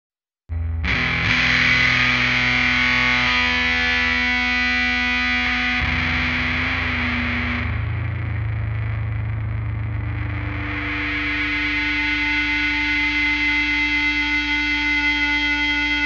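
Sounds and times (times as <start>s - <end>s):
distorted electric guitar droning chords: 0.5s - 16.0s.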